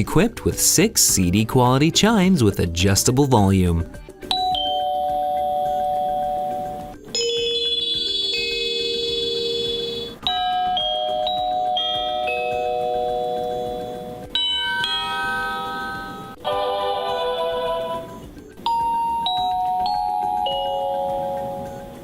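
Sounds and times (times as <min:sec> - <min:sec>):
door chime tunes: 0:04.3 - 0:22.0.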